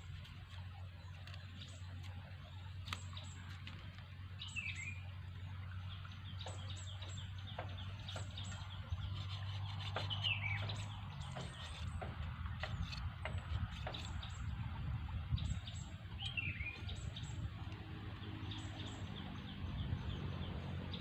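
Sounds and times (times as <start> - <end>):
bird chirping: 0.5 - 21.0.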